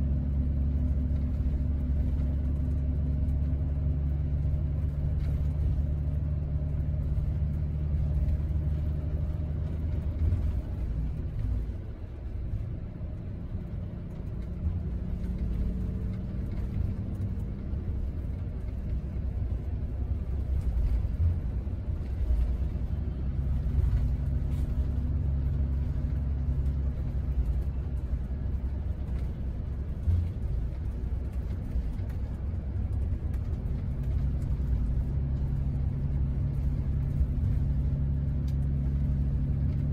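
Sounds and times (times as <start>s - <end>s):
bus engine and road drone: 0.0s - 39.9s.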